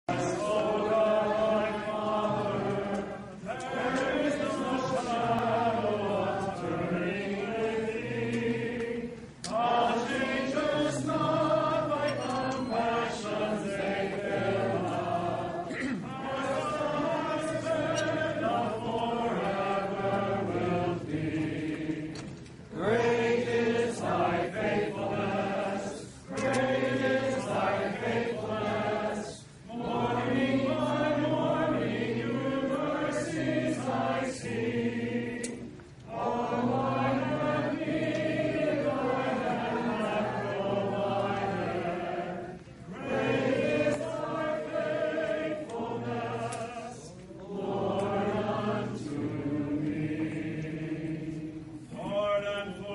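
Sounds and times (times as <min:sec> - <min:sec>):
group of voices singing: 0:00.0 - 0:52.9.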